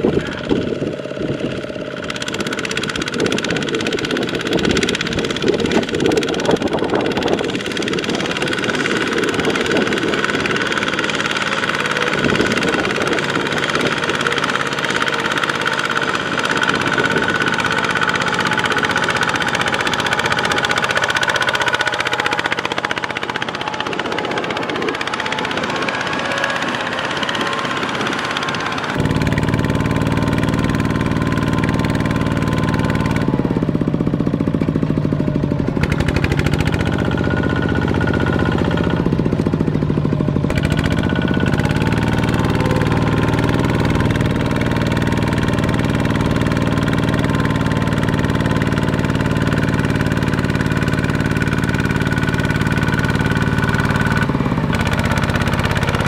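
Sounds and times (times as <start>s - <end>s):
single-cylinder diesel running steadily: 0.0s - 56.0s
tractor diesel engines working hard: 0.0s - 56.0s.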